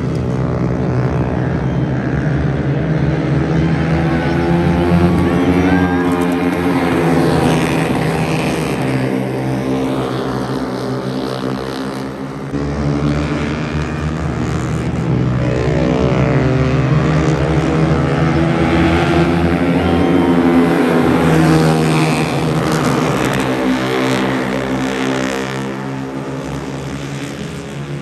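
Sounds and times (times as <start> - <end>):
racing motorcycle engines: 0.0 - 28.0.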